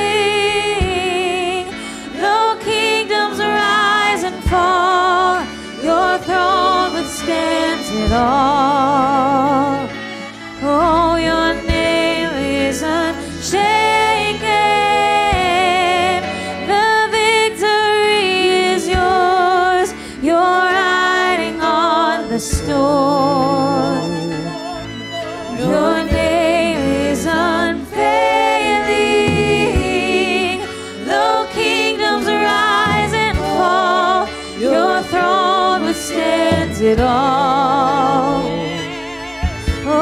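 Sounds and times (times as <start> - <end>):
electric guitar: 0.0 - 40.0
keyboard: 0.0 - 40.0.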